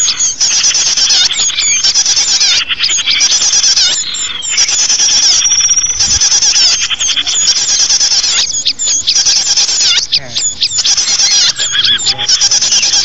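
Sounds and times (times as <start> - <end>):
held whistle: 0.0 - 13.0
small songbirds chirping: 0.0 - 13.0.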